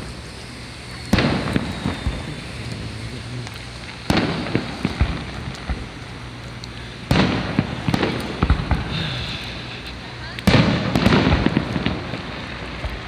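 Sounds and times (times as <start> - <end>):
background fireworks: 0.0 - 13.0
firework bangs: 0.0 - 13.0
firework crackling: 0.0 - 13.0.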